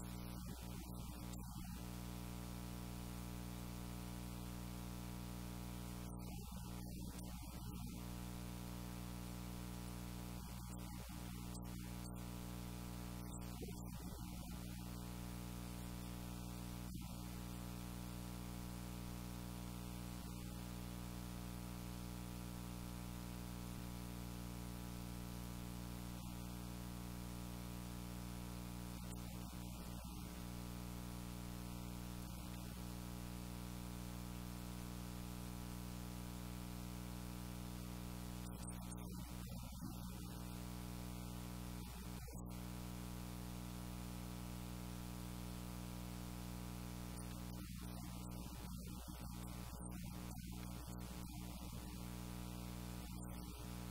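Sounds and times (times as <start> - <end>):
constant hiss: 0.0 - 53.9
electrical mains hum: 0.0 - 53.9.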